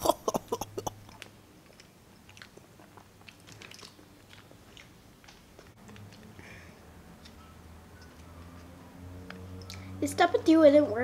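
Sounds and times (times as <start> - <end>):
child chewing food: 0.0 - 10.0.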